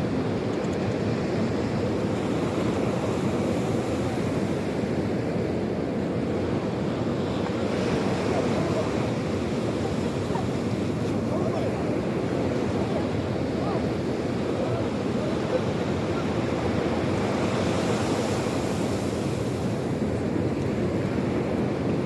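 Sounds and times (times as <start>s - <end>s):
waves washing onto shore: 0.0s - 22.0s.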